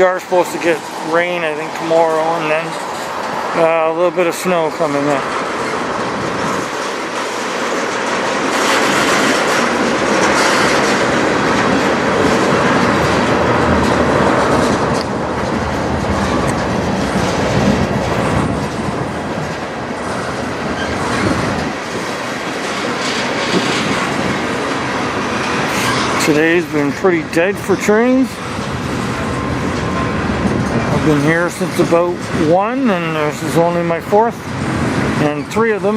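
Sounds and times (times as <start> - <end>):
freight train rumbling past: 0.0 - 35.9
wheels clacking over rail joints: 0.0 - 35.9.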